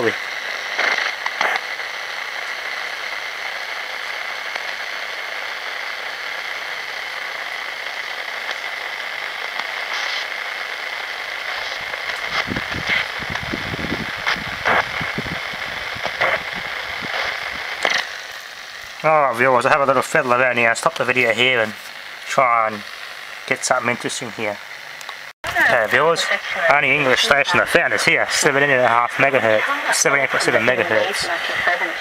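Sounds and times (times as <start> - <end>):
radio clicks and crackles: 0.0 - 32.0
radio static hissing: 0.0 - 32.0.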